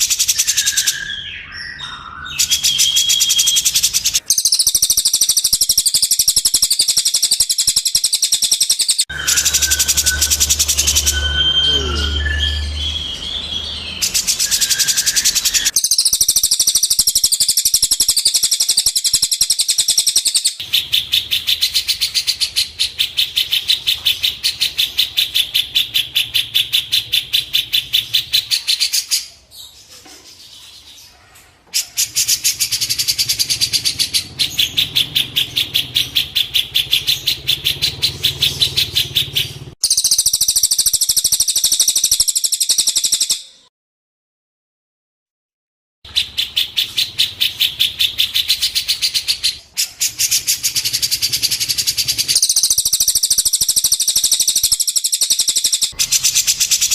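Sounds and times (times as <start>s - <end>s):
songbird high chirps: 0.0s - 31.0s, 31.8s - 43.7s, 46.1s - 56.9s.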